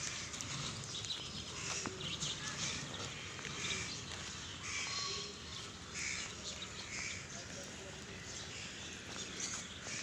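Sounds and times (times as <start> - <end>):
birds harsh calls: 0.0 - 10.0.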